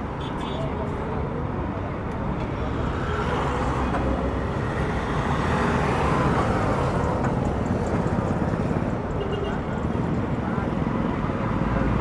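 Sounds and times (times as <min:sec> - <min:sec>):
road traffic roar: 0:00.0 - 0:12.0.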